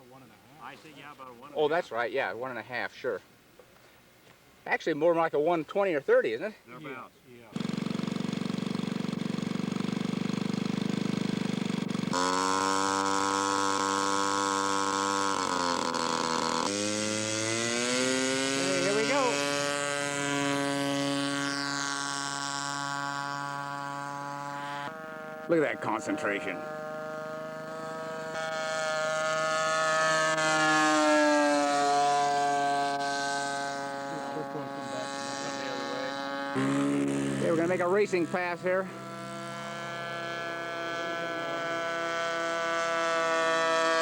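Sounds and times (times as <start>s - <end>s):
model airplane engine buzzing: 7.5s - 44.0s.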